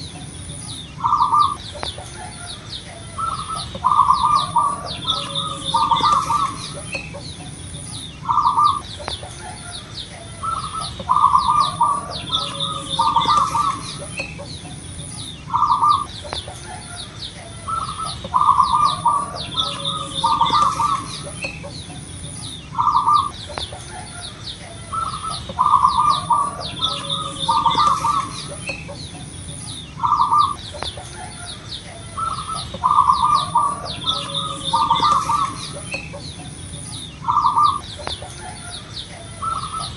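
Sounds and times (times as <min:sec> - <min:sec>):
dove cooing: 0:00.0 - 0:39.9
small birds chirping: 0:00.0 - 0:39.9.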